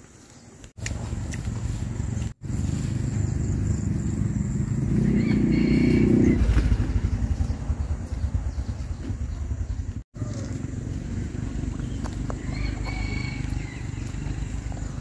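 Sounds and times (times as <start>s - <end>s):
small motorbike engine rumbling: 0.8s - 15.0s.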